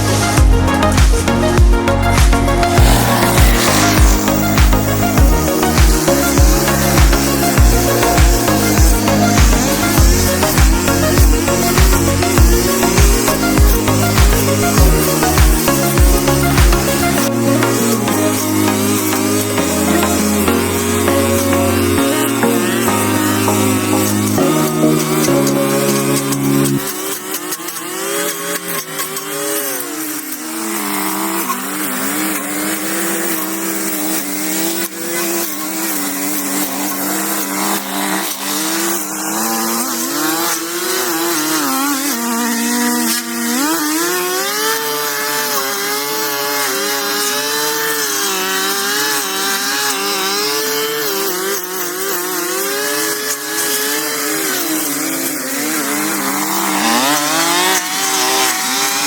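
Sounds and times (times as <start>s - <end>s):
small petrol engine revving: 0.0s - 59.0s.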